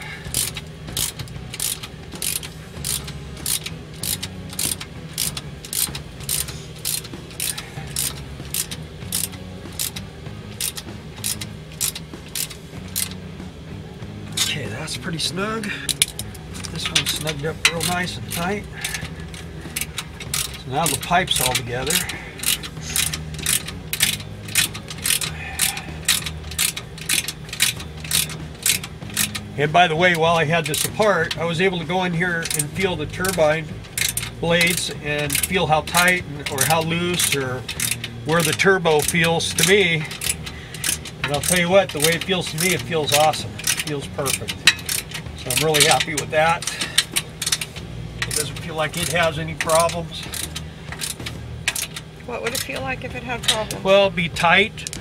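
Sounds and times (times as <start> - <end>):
ratchet wrench clicking: 0.0 - 13.3, 15.8 - 53.8, 54.4 - 55.0
low steady hum: 0.0 - 55.0.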